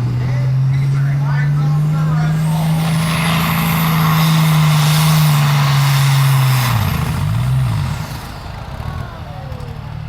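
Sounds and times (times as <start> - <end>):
tractor engine revving: 0.0 - 10.0.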